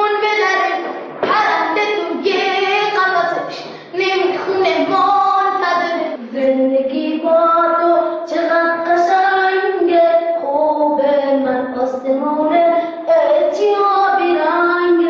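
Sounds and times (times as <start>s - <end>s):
high voice singing: 0.0s - 15.0s.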